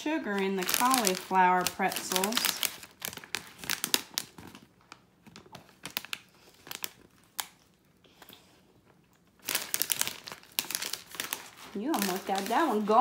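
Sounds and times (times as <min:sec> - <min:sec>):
plastic snack bag crinkling: 0:00.0 - 0:07.9, 0:09.2 - 0:13.0.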